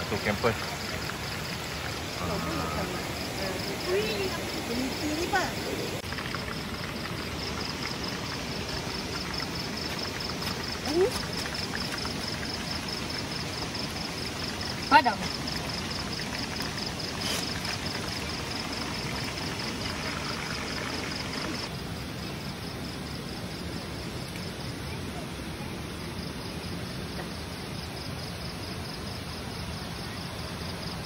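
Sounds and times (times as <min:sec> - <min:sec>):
crickets chirping: 0:00.0 - 0:31.0
steady background hiss: 0:00.0 - 0:31.0.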